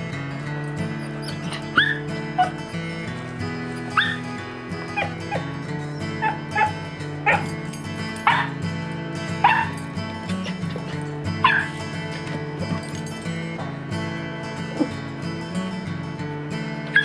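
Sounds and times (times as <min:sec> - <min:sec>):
dogs barking and yipping: 0:00.0 - 0:13.6, 0:14.5 - 0:15.8, 0:16.8 - 0:17.0
background music: 0:00.0 - 0:17.0.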